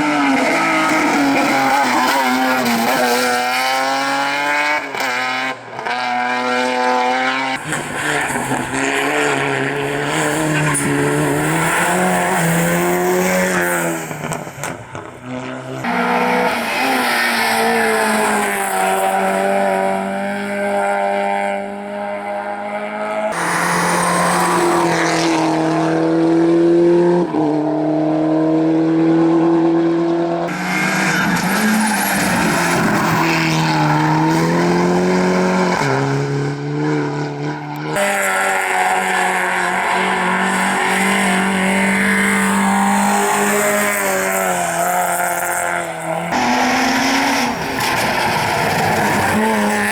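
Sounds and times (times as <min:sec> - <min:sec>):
rally car engines revving: 0:00.0 - 0:49.9.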